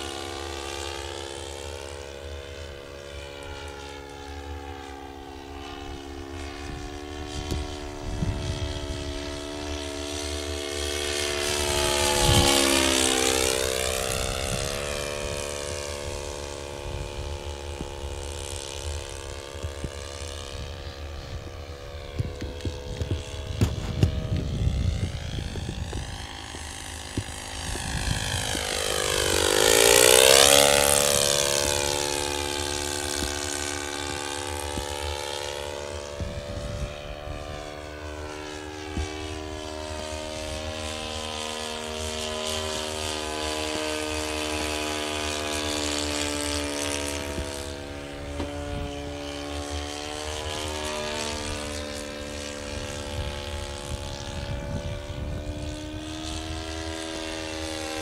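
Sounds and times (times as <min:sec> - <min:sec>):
model airplane engine in flight: 0:00.0 - 0:58.0.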